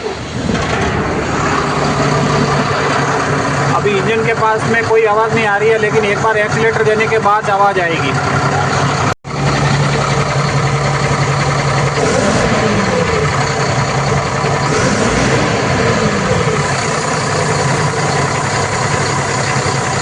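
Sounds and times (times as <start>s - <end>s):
diesel truck engine revving: 0.0s - 20.0s.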